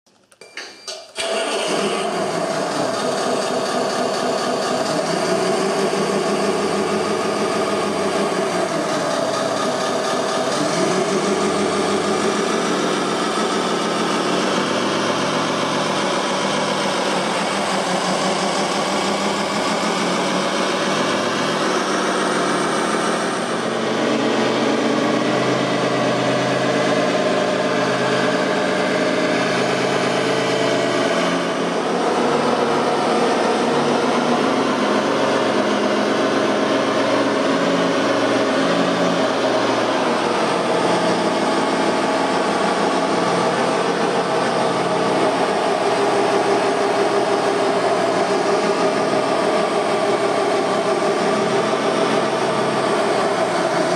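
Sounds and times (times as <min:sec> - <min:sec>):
model wheel loader engine running: 0:01.2 - 0:53.9.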